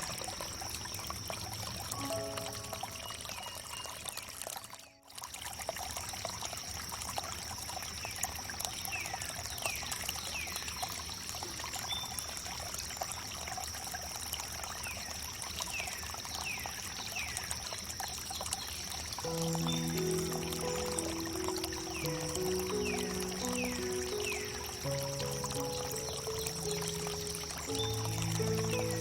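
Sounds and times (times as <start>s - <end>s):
water trickling over wood: 0.0s - 29.0s.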